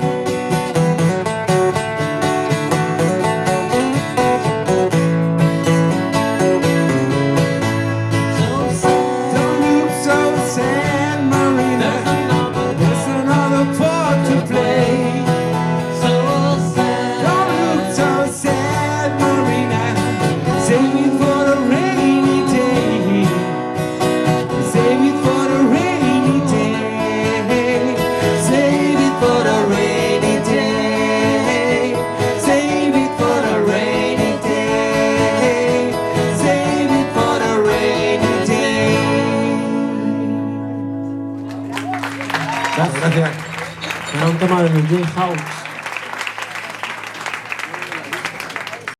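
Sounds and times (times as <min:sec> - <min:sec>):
live country-rock band playing: 0:00.0 - 0:46.0
acoustic guitar: 0:00.0 - 0:46.8.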